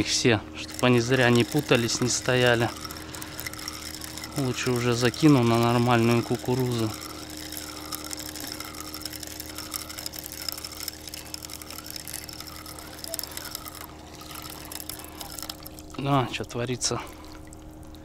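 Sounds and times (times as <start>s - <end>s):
fishing reel whirring and clicking: 0.0s - 18.0s.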